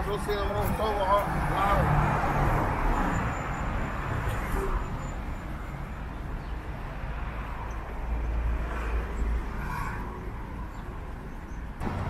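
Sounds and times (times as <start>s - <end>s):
low rumble of car traffic: 0.0s - 12.0s.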